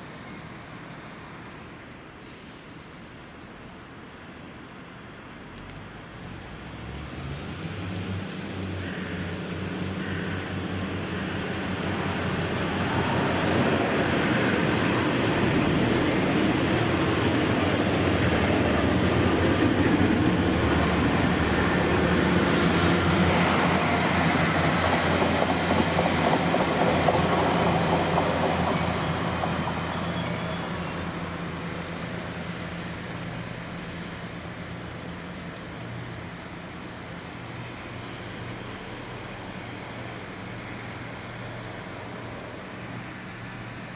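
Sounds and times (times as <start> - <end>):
diesel train passing: 0.0 - 43.9.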